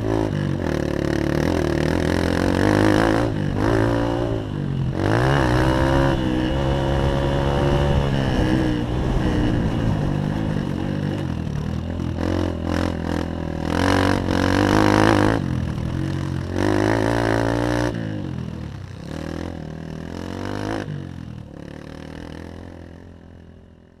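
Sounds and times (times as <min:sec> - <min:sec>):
dirt bike engine revving: 0:00.0 - 0:23.1.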